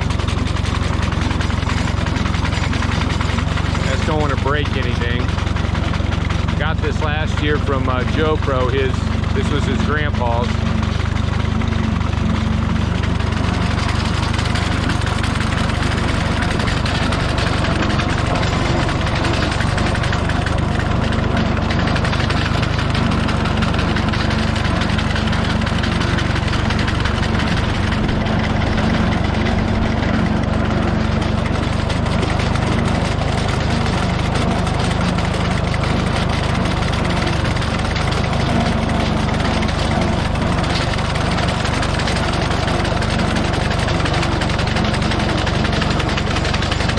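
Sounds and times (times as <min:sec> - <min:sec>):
tractor engine running low revs: 0:00.0 - 0:46.9.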